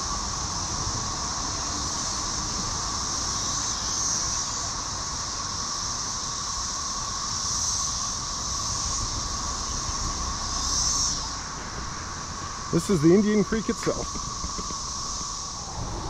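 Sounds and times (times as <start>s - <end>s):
cicadas droning buzz: 0.0s - 16.0s
cicadas high hissing: 0.0s - 16.0s.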